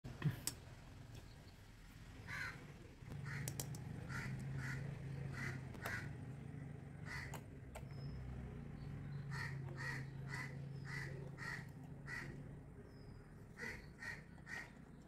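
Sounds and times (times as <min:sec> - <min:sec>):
bird harsh calls: 0:02.2 - 0:15.0.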